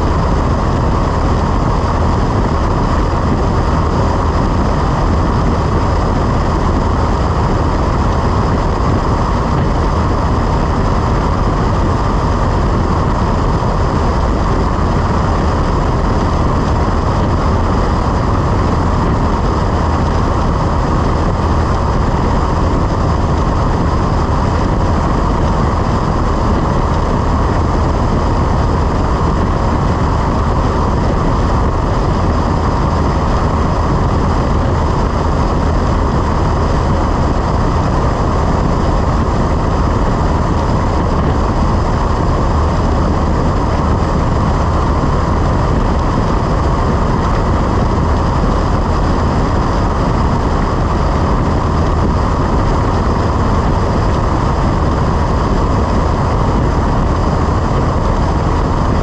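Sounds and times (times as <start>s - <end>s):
airplane engine droning: 0.0s - 59.0s.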